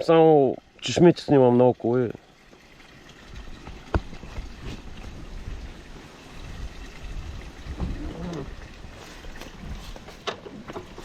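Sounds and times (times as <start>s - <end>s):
water running from fountain spout: 0.0s - 11.0s.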